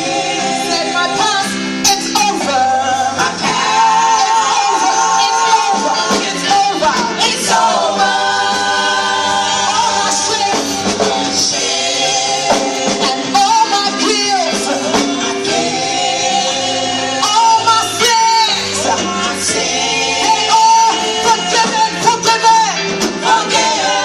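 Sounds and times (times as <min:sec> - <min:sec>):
choir singing a gospel song: 0:00.0 - 0:24.0
instrumental accompaniment: 0:00.0 - 0:24.0.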